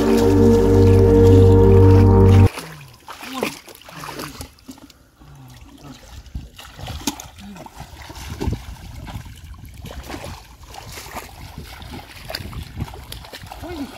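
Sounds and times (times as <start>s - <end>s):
water splashing and sloshing: 0.0s - 13.9s.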